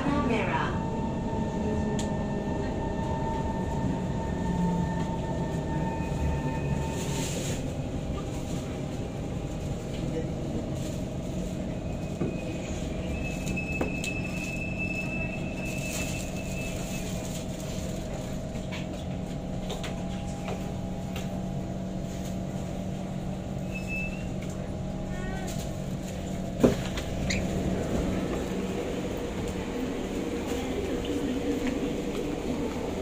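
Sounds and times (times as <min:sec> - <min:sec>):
train running hum: 0:00.0 - 0:33.0.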